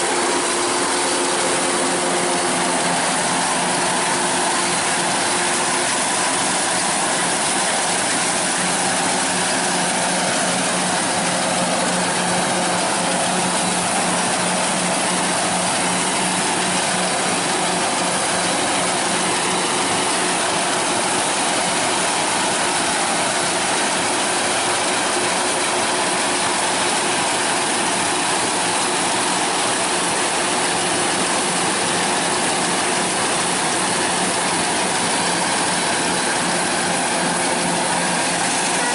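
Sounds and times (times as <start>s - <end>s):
machine clattering and whirring: 0.0s - 38.9s.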